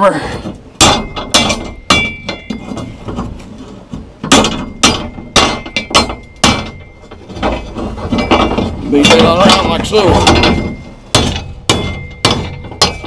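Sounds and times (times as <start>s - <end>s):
hammer striking steel rebar: 0.8s - 3.0s, 4.2s - 13.0s.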